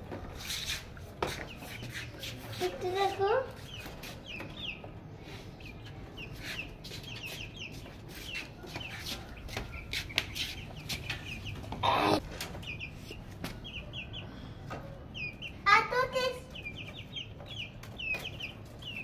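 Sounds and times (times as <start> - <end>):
chicks peeping: 0.1 - 19.0.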